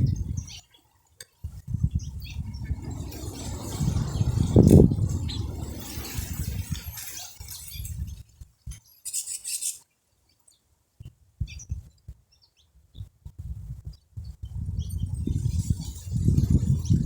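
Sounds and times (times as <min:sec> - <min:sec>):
low rumble of wind: 0:00.0 - 0:00.6, 0:01.4 - 0:08.8, 0:11.0 - 0:17.0
small birds chirping: 0:00.0 - 0:13.1, 0:13.8 - 0:17.0.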